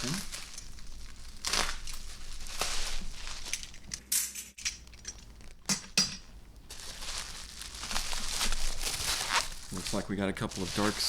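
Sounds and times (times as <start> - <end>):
plastic packaging crinkling: 0.0 - 3.9, 4.9 - 11.0.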